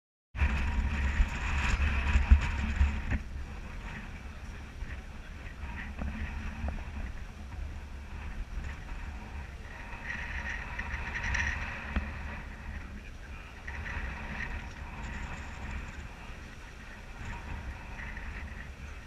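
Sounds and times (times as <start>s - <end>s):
boat engine low rumble: 0.4s - 19.0s
water and wind hiss: 0.4s - 19.0s.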